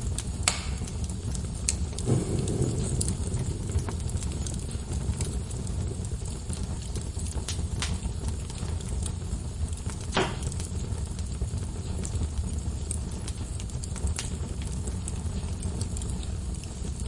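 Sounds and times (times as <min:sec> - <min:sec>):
fire pops and snaps: 0:00.0 - 0:17.0
low rumble of flame: 0:00.0 - 0:17.0
wood fire crackling: 0:00.0 - 0:17.0.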